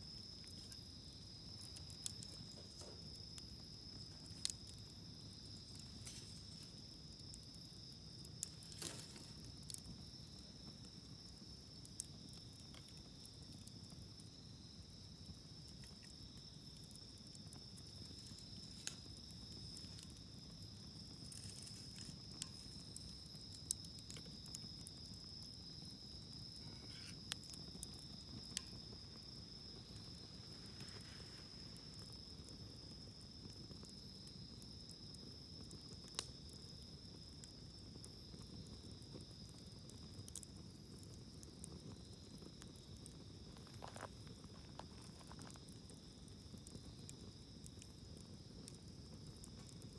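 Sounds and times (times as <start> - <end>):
campfire popping and crackling: 0.0 - 49.9
insects chirring: 0.0 - 49.9.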